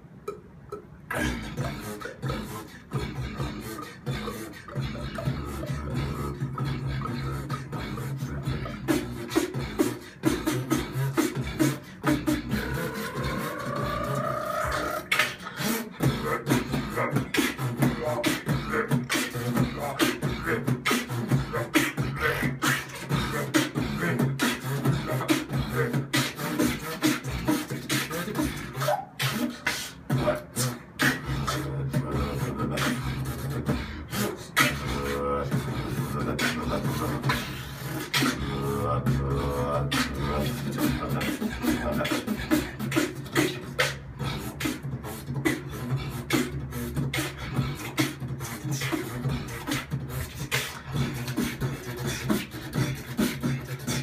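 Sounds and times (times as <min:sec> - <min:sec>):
beatboxing beat: 0:00.0 - 0:54.0
short pitched vocal lines: 0:00.0 - 0:54.0.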